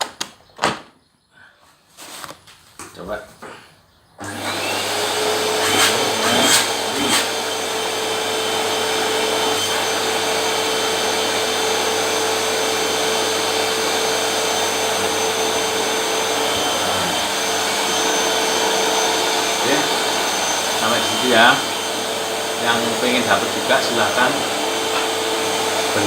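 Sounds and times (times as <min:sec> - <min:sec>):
vacuum cleaner running: 0:04.2 - 0:26.0.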